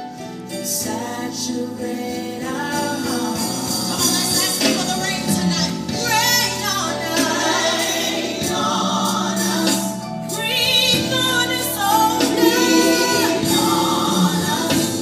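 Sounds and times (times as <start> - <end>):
choir singing gospel song: 0.0 - 15.0
instrumental backing: 0.0 - 15.0.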